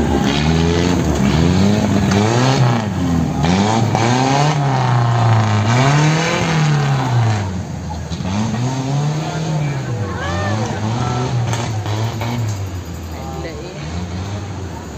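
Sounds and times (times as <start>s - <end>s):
off-road vehicle engine revving: 0.0s - 14.9s.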